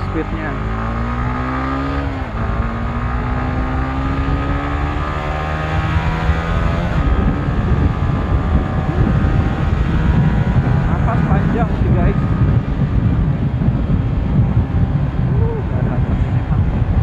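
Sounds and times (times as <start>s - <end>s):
motorcycle engine pulling hard: 0.0s - 17.0s
wind rush on microphone: 0.0s - 17.0s.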